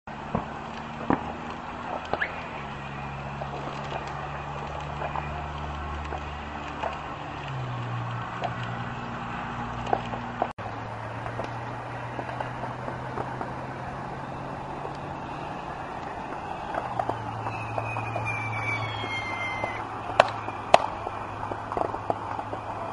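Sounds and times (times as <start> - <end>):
engine drone: 0.1 - 22.9
traffic rumble on bridge: 0.1 - 22.9.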